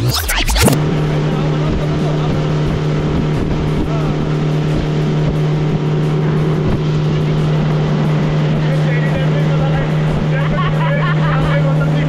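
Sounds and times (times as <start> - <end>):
speedboat engine drone: 0.0 - 12.0.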